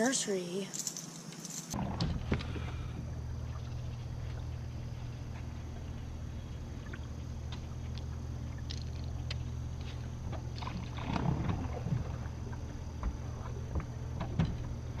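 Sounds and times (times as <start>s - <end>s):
boat motor running: 1.8s - 15.0s.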